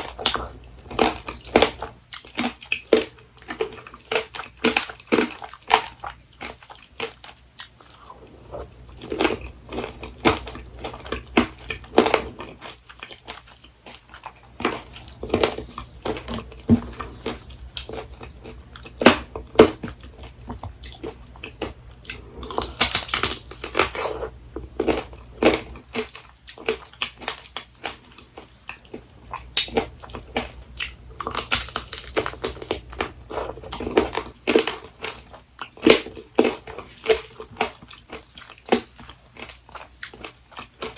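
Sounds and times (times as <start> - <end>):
candy shell crunching between teeth: 0.0 - 40.9
wet chewing: 0.0 - 40.9.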